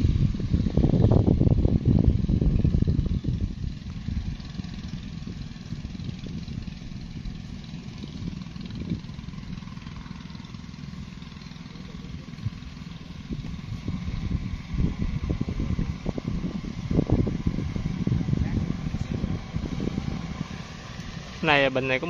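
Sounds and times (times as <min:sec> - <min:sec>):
drone rotors droning: 0:00.0 - 0:22.0.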